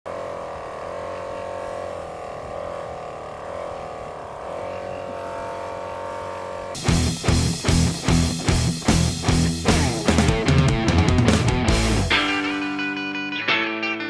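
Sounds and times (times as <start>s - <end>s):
air compressor droning: 0.1s - 12.2s.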